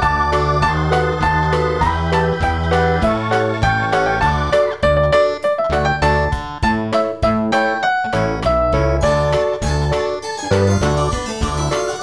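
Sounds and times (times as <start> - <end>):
keyboard tune with bass line: 0.0 - 12.0.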